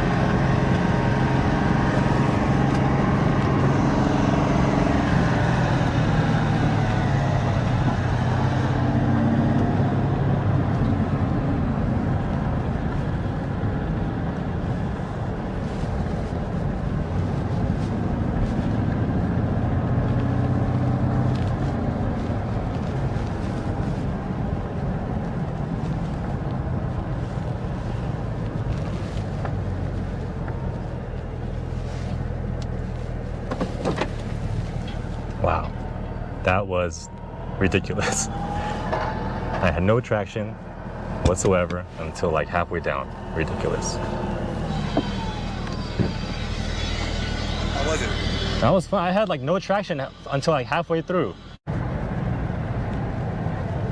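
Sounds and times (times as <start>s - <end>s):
car engine running loud: 0.0s - 53.9s.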